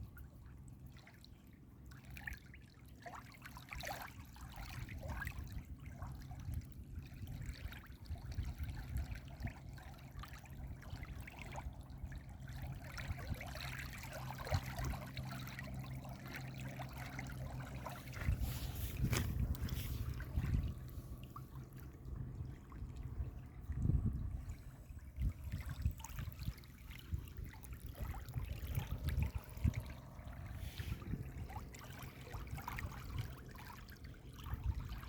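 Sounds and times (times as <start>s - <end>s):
stream water trickling: 0.0s - 35.0s.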